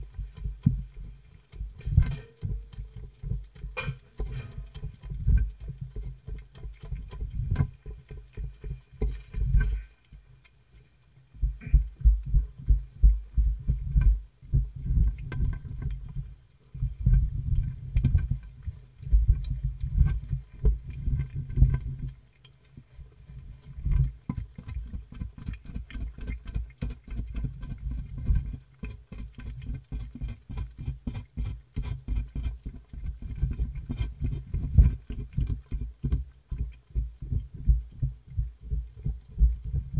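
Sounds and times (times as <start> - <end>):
cats licking and chewing food: 0.0 - 39.9.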